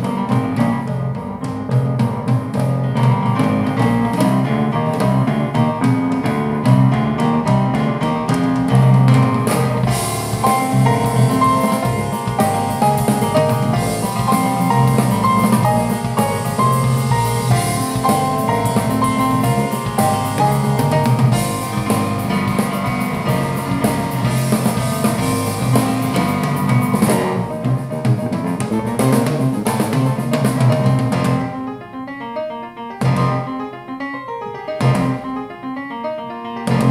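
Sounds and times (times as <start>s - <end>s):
bass guitar: 0.0s - 31.6s, 33.0s - 33.6s, 34.7s - 35.3s, 36.6s - 36.9s
drum kit: 0.0s - 32.0s, 32.9s - 33.9s, 34.6s - 35.6s, 36.6s - 36.9s
piano: 0.0s - 36.9s.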